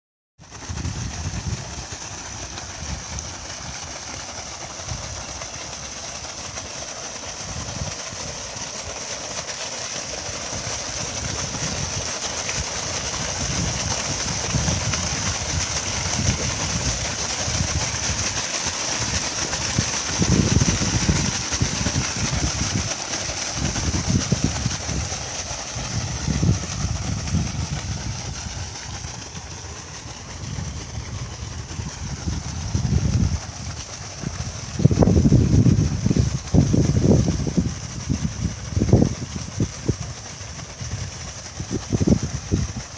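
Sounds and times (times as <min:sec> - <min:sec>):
water pouring from pipe: 0:00.4 - 0:42.9
wind buffeting microphone: 0:00.4 - 0:42.9.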